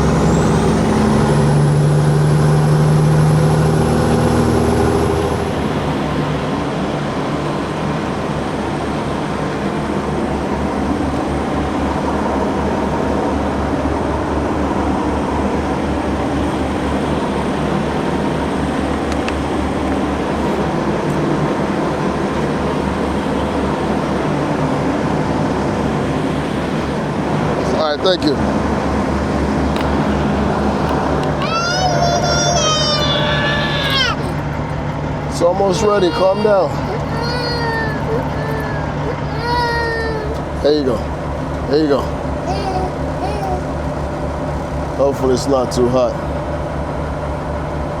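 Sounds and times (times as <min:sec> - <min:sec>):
truck diesel engine running: 0:00.0 - 0:48.0.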